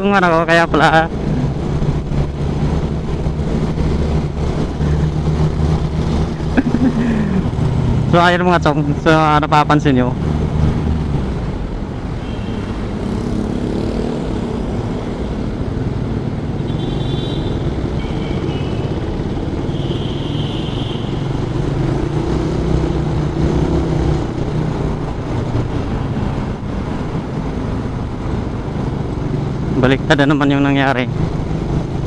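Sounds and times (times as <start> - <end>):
road and wind rumble: 0.0 - 32.0.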